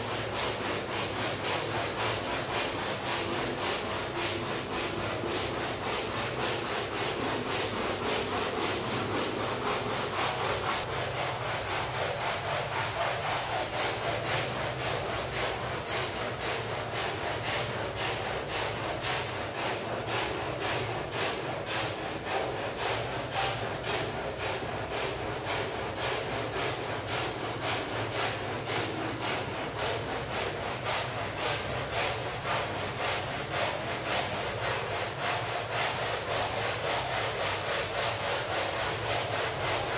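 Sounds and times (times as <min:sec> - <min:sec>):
stiff brush scrubbing wet rug: 0:00.0 - 0:39.9.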